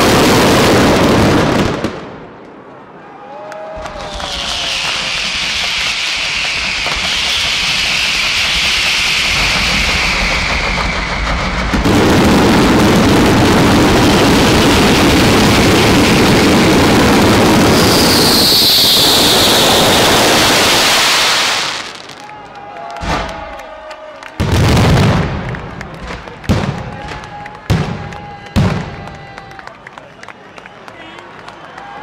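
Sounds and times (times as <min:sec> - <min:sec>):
firework bangs rumbling: 0:00.0 - 0:02.4, 0:03.8 - 0:22.3, 0:24.4 - 0:29.6.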